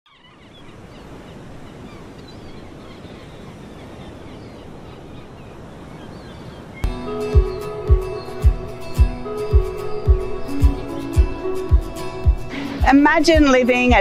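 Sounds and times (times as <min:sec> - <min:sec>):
small birds chirping: 0:00.1 - 0:14.0
ocean surf breaking: 0:00.7 - 0:14.0.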